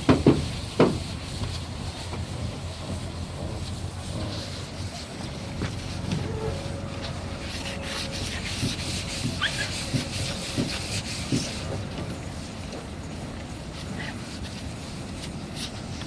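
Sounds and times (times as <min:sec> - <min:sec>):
sanding metal sheet: 0:00.0 - 0:16.0.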